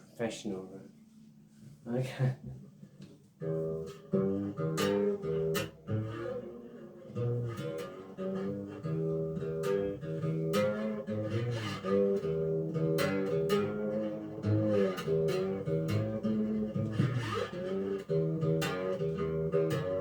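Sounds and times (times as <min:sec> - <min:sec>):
slide guitar plucked notes: 0:03.4 - 0:20.0.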